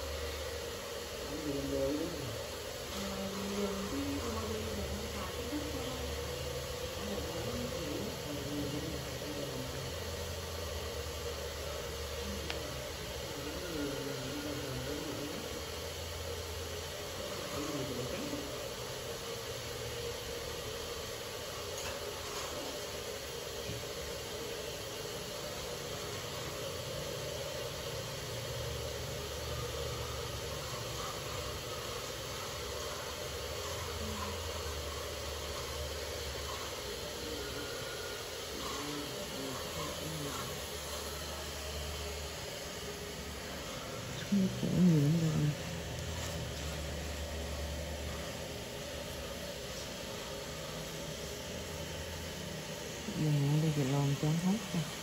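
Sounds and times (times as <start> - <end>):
low mechanical hum with hiss: 0.0 - 55.0.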